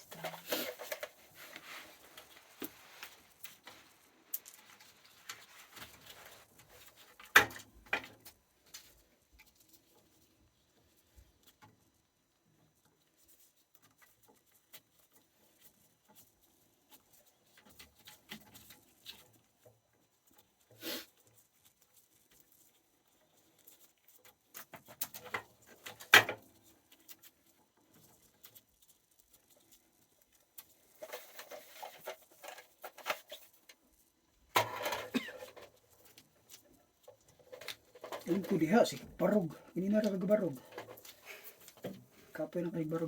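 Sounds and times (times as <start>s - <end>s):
wires and parts rustling: 0.0s - 43.0s.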